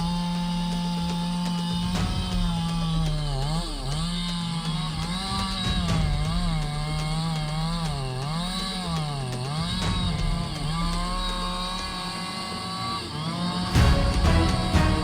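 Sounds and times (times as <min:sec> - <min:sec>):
chainsaw engine at high revs: 0:00.0 - 0:15.0.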